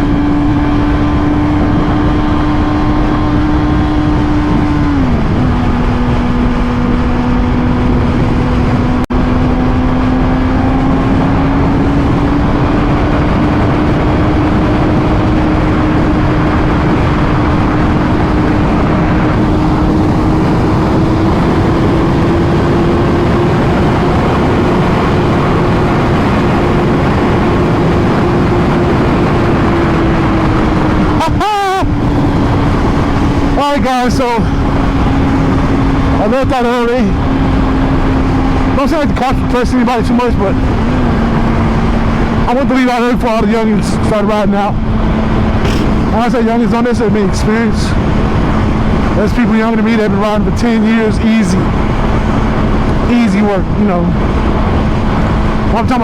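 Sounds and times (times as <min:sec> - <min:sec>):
motorcycle engine: 0:00.0 - 0:56.0
wind rushing: 0:00.0 - 0:56.0.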